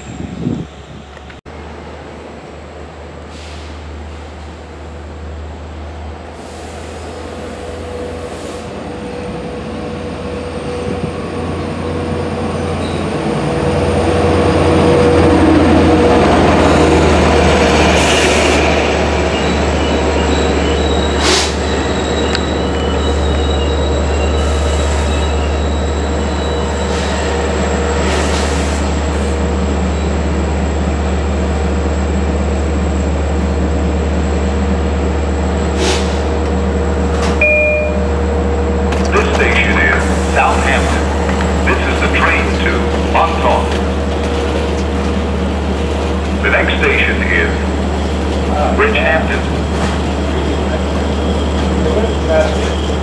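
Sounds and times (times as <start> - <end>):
diesel train low drone: 0.0 - 53.0.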